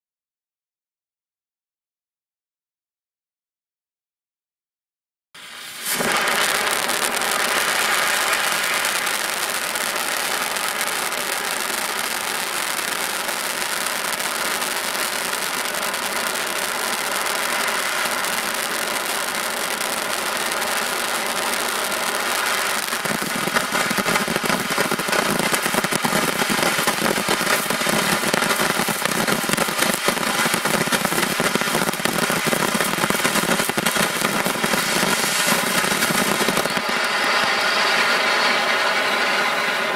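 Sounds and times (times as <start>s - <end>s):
firework crackling: 5.4s - 39.9s
firework fountain hissing: 5.4s - 39.9s.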